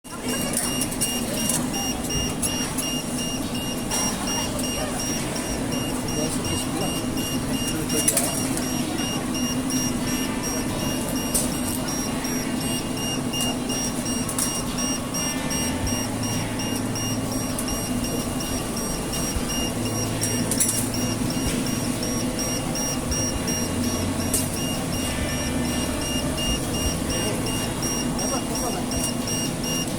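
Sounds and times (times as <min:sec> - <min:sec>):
ice cream machine beeping: 0:00.1 - 0:29.9.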